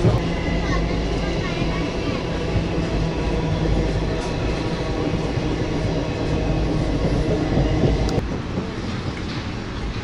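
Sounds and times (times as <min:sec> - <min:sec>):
train coach rumbling on track: 0:00.0 - 0:10.0.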